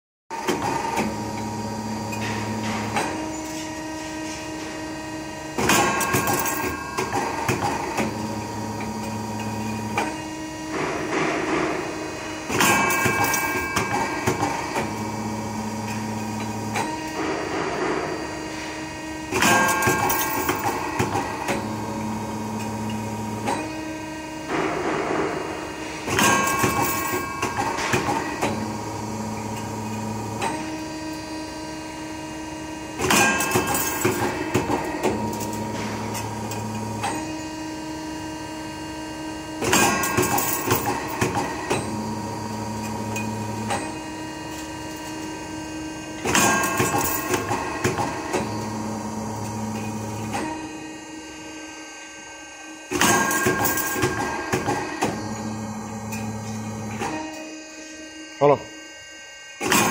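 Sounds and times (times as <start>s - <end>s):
machine low hum: 0.4s - 59.9s
machine higher tone: 1.2s - 59.9s.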